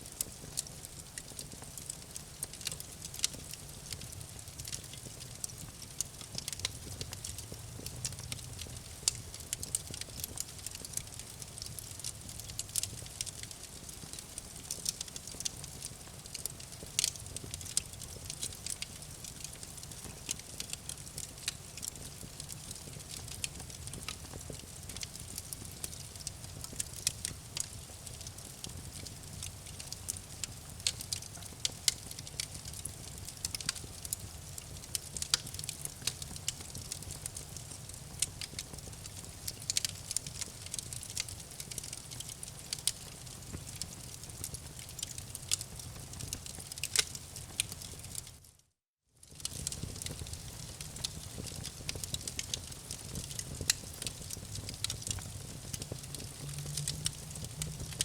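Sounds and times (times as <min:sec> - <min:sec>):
campfire crackling and popping: 0:00.0 - 0:48.4, 0:49.3 - 0:58.0
low rumble of burning fire: 0:00.0 - 0:48.5, 0:49.2 - 0:58.0.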